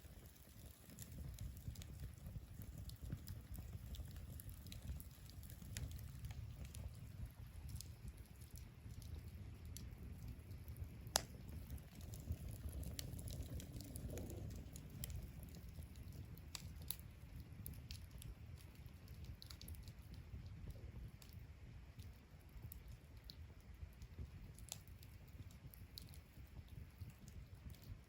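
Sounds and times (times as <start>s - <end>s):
low steady rumble: 0.0s - 28.0s
wood fire crackling and popping: 0.0s - 28.0s.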